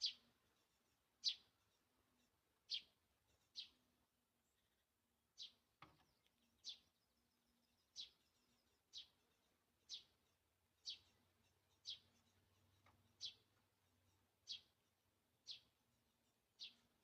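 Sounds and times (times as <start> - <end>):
small songbird calling: 0.0 - 17.0.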